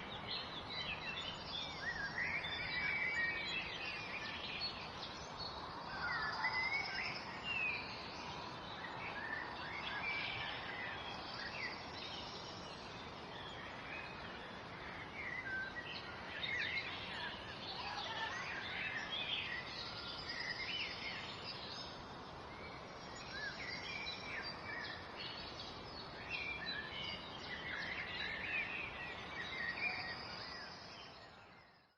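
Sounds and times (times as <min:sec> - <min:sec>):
background hiss: 0:00.0 - 0:31.7
songbirds chirping and singing: 0:00.0 - 0:31.9.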